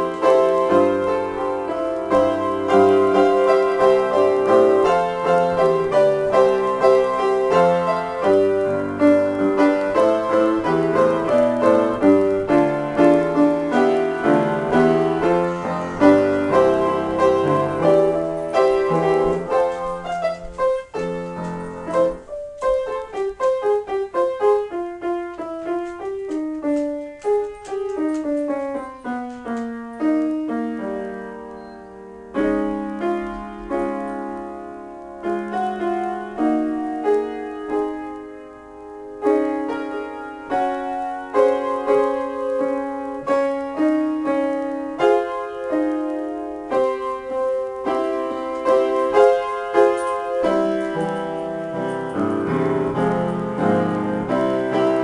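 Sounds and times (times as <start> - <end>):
upright piano improvisation: 0.0 - 55.0.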